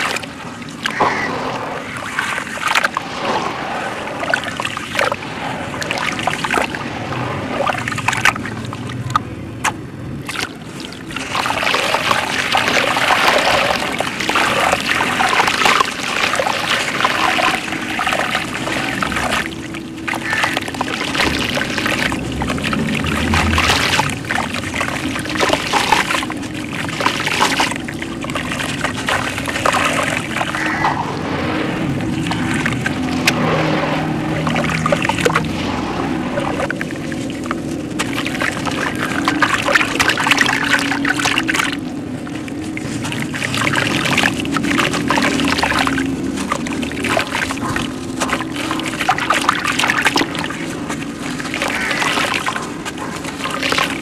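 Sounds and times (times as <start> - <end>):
water splashing and dripping: 0.0 - 54.0
hands squelching through wet sand: 9.6 - 41.8, 42.4 - 54.0.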